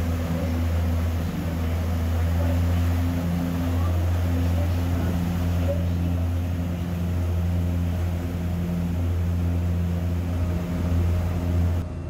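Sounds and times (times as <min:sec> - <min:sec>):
boat engine droning: 0:00.0 - 0:12.0
hiss of water and wind: 0:00.0 - 0:12.0.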